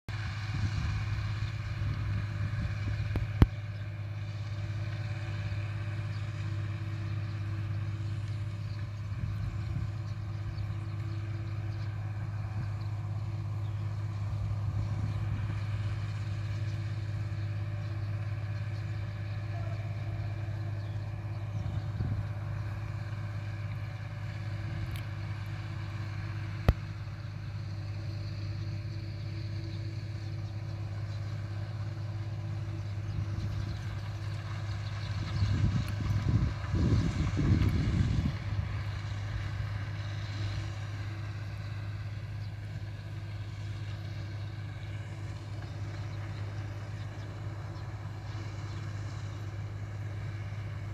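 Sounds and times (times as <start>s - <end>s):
distant tractor engine drone: 0.1s - 50.9s.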